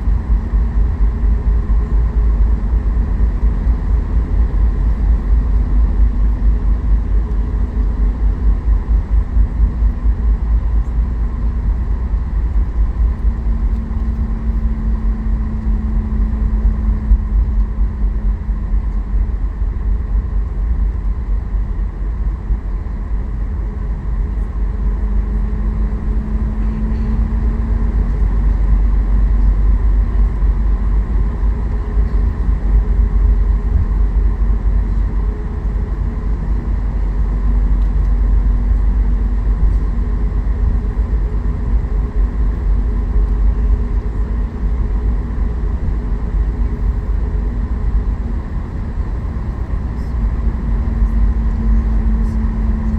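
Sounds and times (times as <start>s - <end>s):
airplane cabin engine hum: 0.0s - 52.9s.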